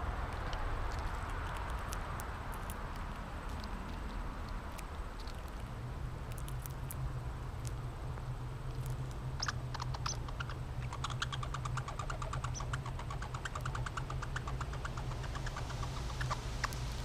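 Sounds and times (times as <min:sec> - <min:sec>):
squirrel chewing seeds: 0:00.0 - 0:17.0
steady low hum: 0:00.0 - 0:17.0.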